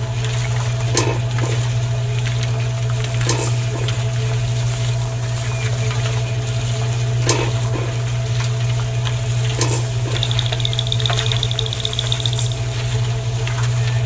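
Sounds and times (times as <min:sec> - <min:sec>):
low machine drone: 0:00.0 - 0:14.0.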